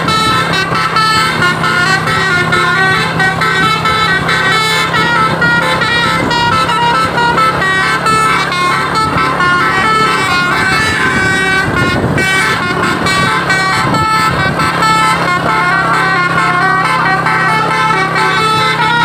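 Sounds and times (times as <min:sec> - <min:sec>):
multi-tone bus horn melody: 0:00.0 - 0:19.0
steady low drone: 0:00.0 - 0:19.0.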